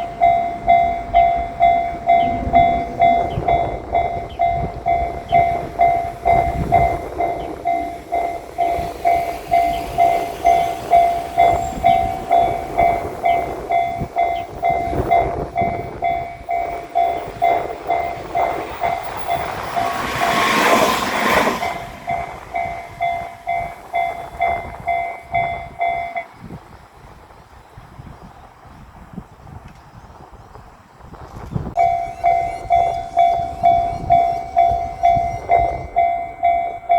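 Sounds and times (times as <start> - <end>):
railroad crossing bell ringing: 0.0 - 26.5, 31.8 - 36.9
train rumble and wheel clatter: 0.0 - 36.9.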